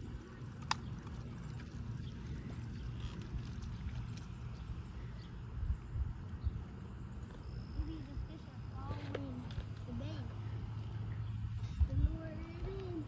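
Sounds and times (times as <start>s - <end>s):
wind buffeting microphone: 0.0s - 10.1s, 10.9s - 13.0s.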